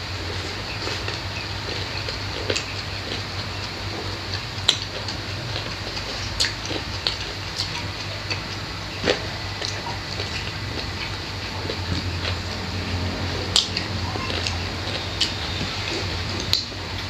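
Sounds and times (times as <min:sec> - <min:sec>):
low steady hum: 0:00.0 - 0:17.0
mouth chewing and smacking: 0:00.2 - 0:17.0.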